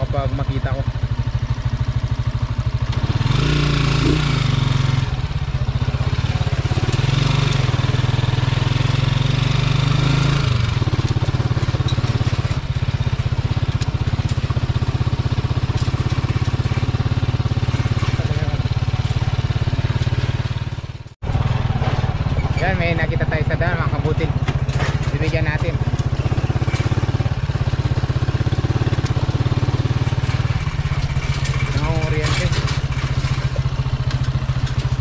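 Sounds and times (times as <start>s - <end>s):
small motorcycle engine running: 0.0s - 35.0s.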